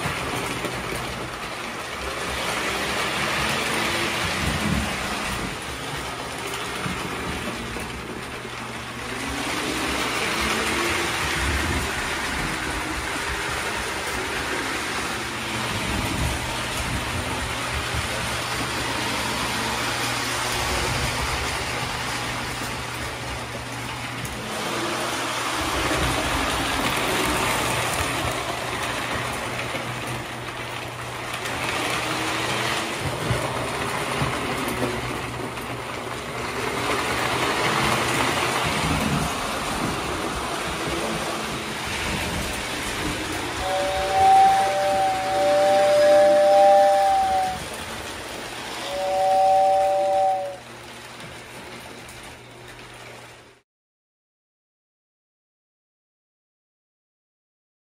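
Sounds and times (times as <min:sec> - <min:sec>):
toy train motors running: 0:00.0 - 0:53.6
toy train wheels clattering on track: 0:00.0 - 0:53.6.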